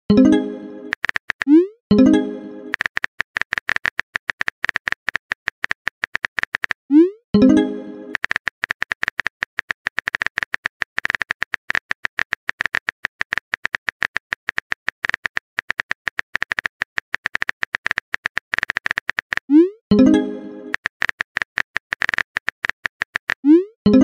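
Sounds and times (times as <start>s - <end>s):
phone keyboard typing clicks: 0.2s - 6.8s, 7.4s - 19.5s, 20.1s - 24.0s.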